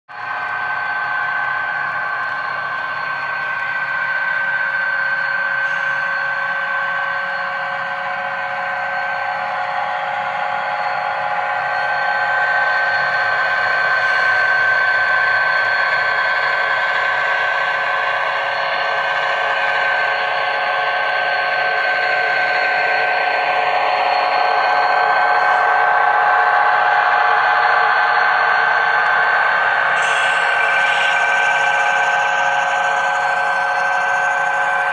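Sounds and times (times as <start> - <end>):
thin diesel engine drone from speakers: 0.1 - 34.9.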